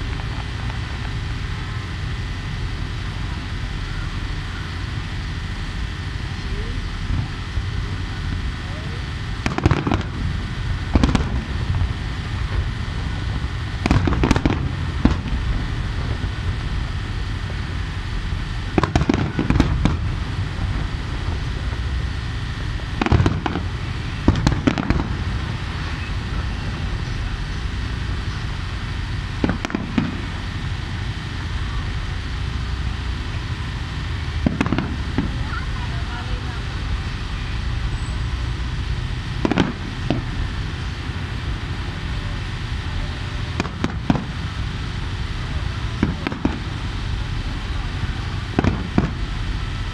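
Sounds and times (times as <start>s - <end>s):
steady low rumble: 0.0s - 49.9s
firework shells bursting: 9.2s - 36.0s, 36.6s - 49.9s.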